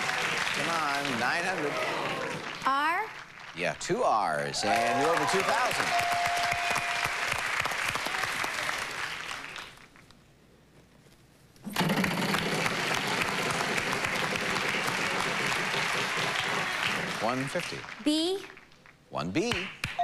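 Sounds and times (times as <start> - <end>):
studio audience applauding: 0.0 - 10.0, 11.7 - 18.8.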